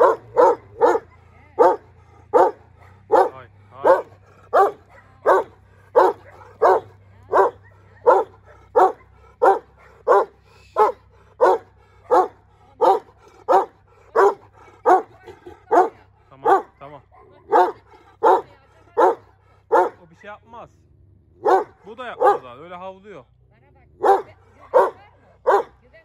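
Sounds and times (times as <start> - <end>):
dog barking deeply: 0.0 - 20.1, 21.4 - 22.6, 24.0 - 25.8.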